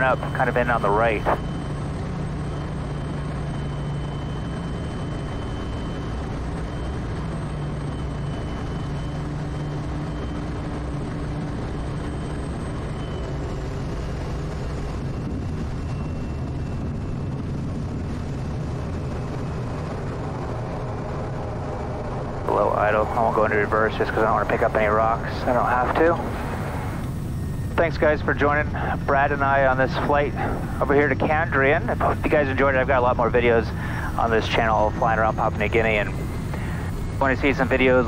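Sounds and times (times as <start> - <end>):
turboprop engine drone: 0.0 - 38.0.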